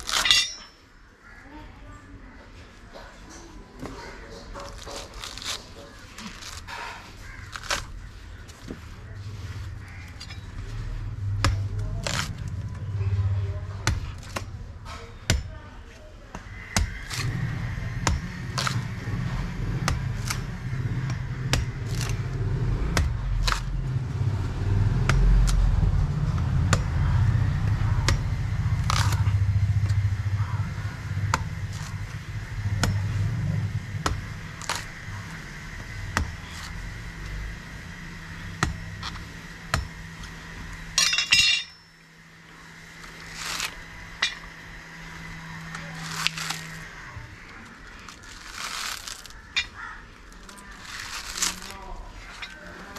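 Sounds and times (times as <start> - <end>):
machete chopping coconuts: 0.0 - 0.8, 3.8 - 8.8, 9.5 - 41.4, 47.6 - 52.9
low engine-like hum: 0.0 - 52.9.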